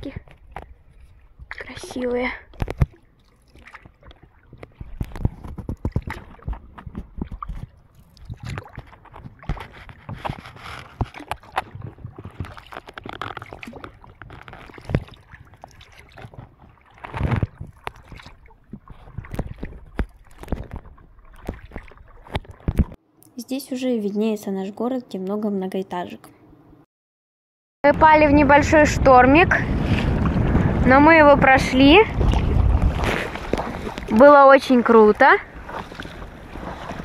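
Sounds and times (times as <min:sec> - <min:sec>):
water slaps and splashes: 0:00.0 - 0:23.0, 0:28.6 - 0:37.0
water lapping against paddleboard: 0:00.1 - 0:23.0, 0:28.7 - 0:37.0.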